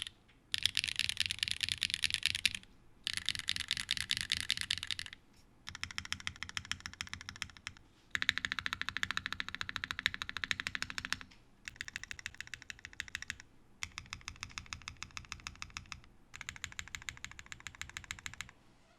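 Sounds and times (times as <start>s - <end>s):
mechanical keyboard keystrokes: 0.0s - 18.5s.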